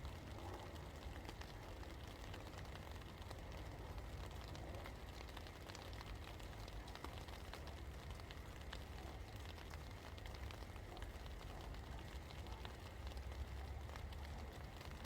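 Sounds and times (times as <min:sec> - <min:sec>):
rain drops on hard surface: 0:00.0 - 0:15.0
rain hiss: 0:00.0 - 0:15.0.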